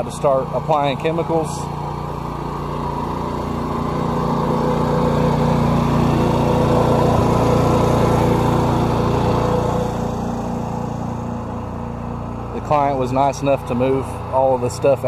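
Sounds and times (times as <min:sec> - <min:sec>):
engine and pump running: 0:00.0 - 0:15.0.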